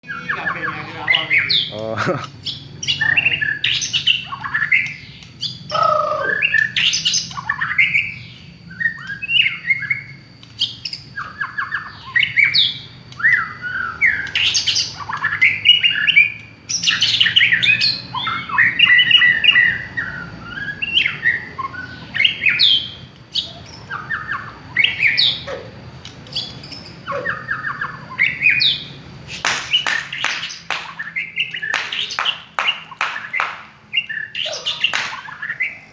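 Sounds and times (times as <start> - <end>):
songbird singing varied phrases: 0.0 - 35.9.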